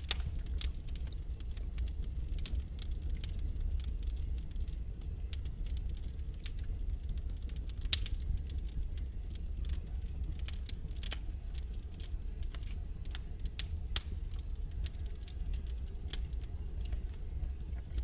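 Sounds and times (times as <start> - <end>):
fire crackling and popping: 0.0 - 18.0
low steady rumble: 0.0 - 18.0.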